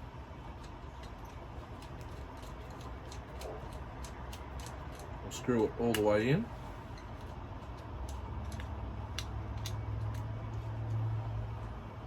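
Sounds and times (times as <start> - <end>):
low steady hum: 0.0 - 12.0
small parts clicking when handled: 0.5 - 11.8.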